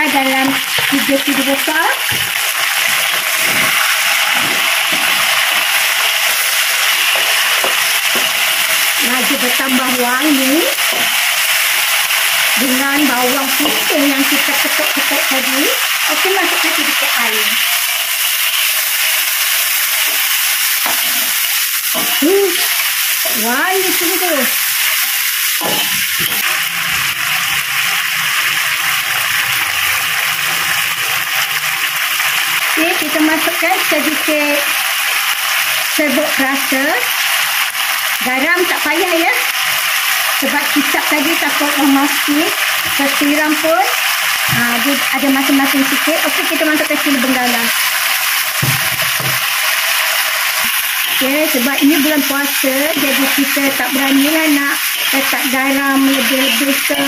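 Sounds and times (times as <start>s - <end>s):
food sizzling in hot oil: 0.0s - 57.0s.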